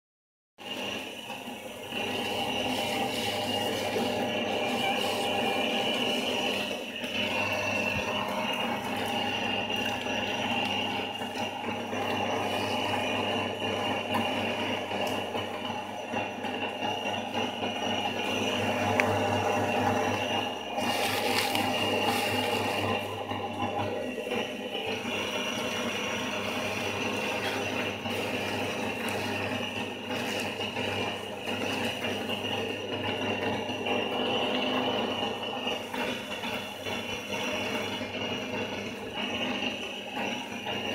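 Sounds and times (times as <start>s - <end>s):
machine whining and humming: 0.6s - 40.9s.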